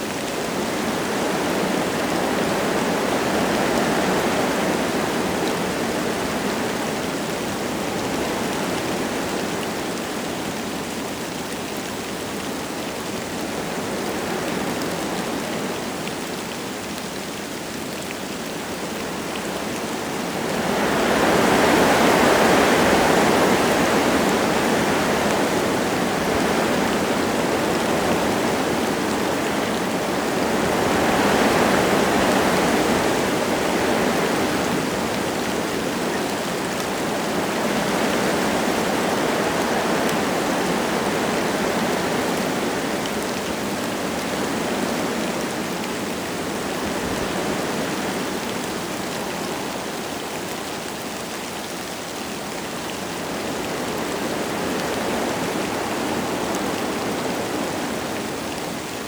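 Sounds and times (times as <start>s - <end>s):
light rain falling: 0.0s - 59.0s
wind gusting through trees: 0.0s - 59.0s.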